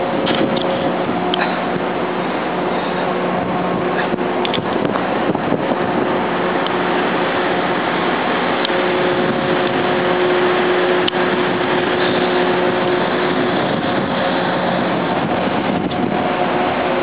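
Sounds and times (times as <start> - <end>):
faint held hum tones: 0.0 - 17.0
marine engines droning: 0.0 - 17.0
water noise: 0.0 - 17.0
wind: 0.0 - 17.0.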